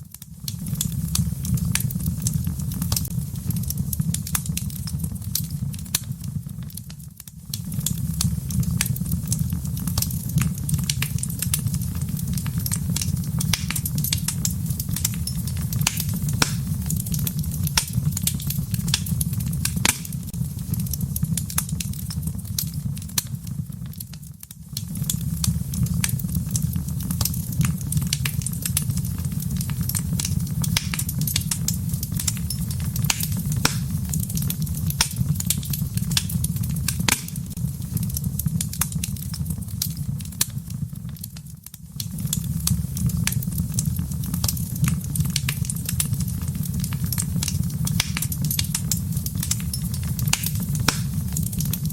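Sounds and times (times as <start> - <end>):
low rumble of flames: 0.0 - 51.9
wood fire crackling: 0.0 - 51.9.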